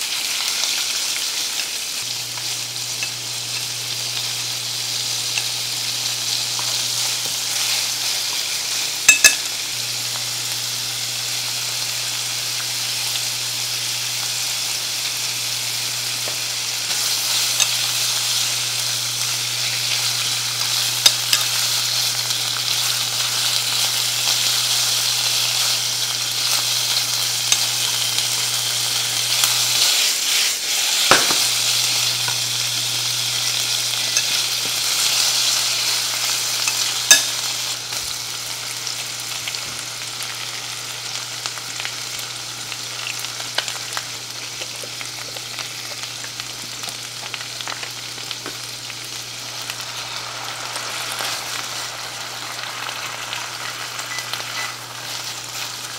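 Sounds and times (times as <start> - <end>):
meat sizzling in a frying pan: 0.0 - 55.9.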